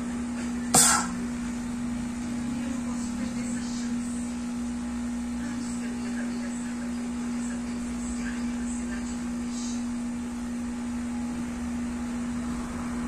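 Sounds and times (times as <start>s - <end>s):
laminating machine humming: 0.0s - 13.0s.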